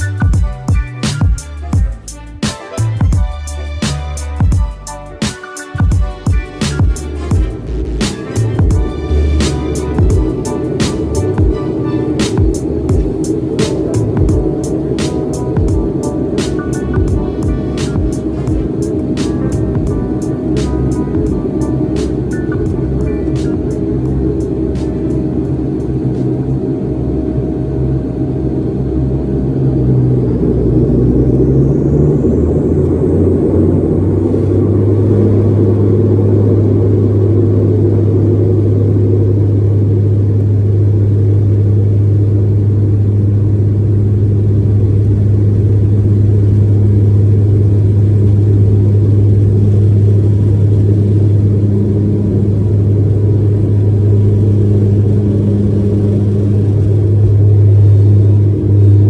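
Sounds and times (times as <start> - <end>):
low propeller drone: 0.0 - 59.0
turboprop engine whine: 0.0 - 59.0.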